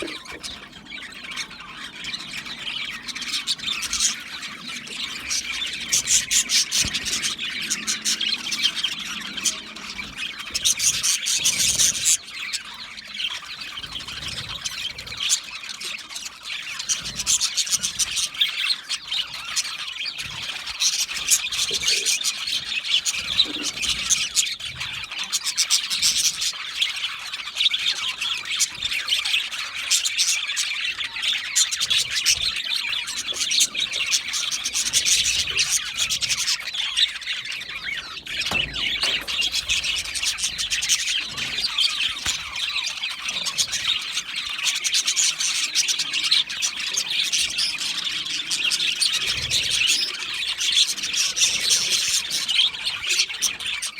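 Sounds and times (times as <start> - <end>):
budgerigars chirping and squawking: 0.0 - 53.9.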